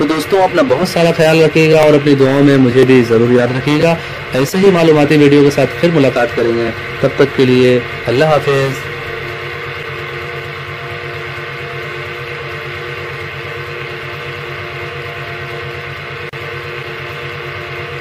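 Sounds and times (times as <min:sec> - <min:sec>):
water pump mechanical hum: 0:00.0 - 0:18.0.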